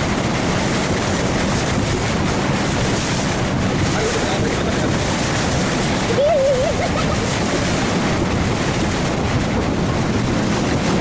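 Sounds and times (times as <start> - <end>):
boat motor running: 0.0 - 11.0
water rushing past hull: 0.0 - 11.0
wind buffeting microphone: 0.0 - 11.0.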